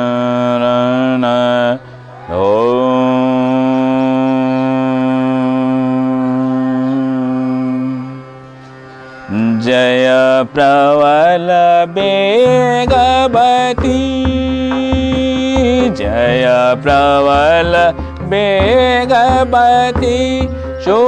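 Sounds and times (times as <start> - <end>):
man singing: 0.0 - 8.3, 9.3 - 21.0
harmonium drone: 0.0 - 21.0.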